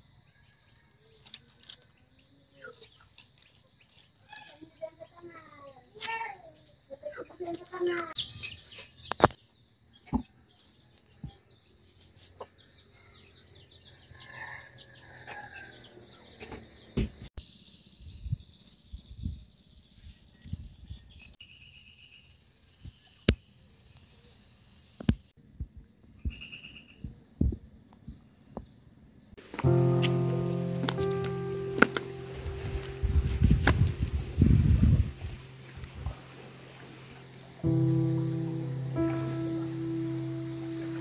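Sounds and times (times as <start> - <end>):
small birds chirping: 0.7 - 25.2, 29.6 - 41.0.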